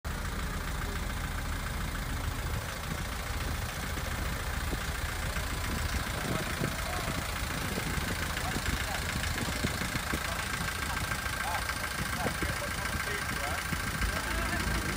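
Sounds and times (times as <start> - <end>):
truck engine idling: 0.0 - 14.9.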